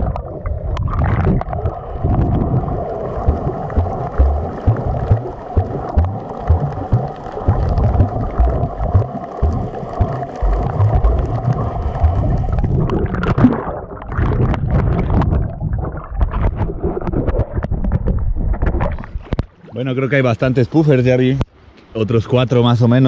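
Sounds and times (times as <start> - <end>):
low thumps from movement: 0.0 - 19.5
muffled underwater rumble: 0.0 - 19.6
water splashing and bubbling: 0.0 - 20.0.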